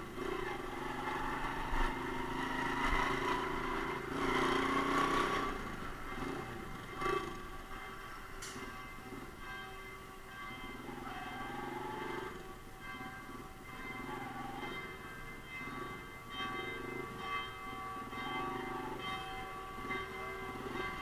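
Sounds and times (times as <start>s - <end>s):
church bells ringing: 0.0s - 21.0s
small motorcycle engine idling: 0.0s - 21.0s.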